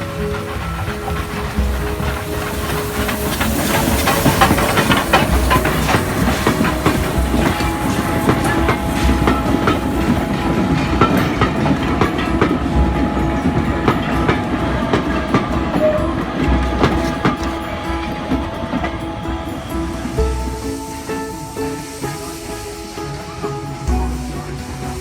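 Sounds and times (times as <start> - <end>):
train running rumble: 0.0 - 25.0
train wheels clattering: 0.0 - 25.0.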